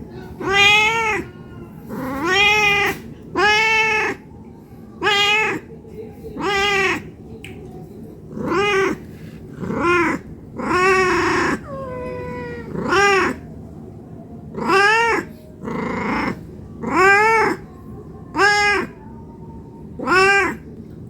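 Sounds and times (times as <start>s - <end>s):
cat meowing: 0.1s - 4.3s, 5.0s - 5.7s, 6.4s - 7.1s, 8.3s - 13.5s, 14.5s - 20.7s.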